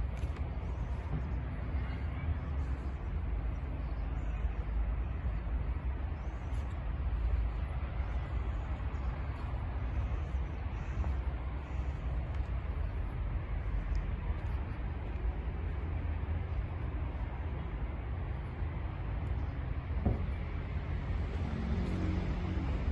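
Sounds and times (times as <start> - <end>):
steady low rumble: 0.0 - 22.9
faint indistinct voices: 0.1 - 18.6.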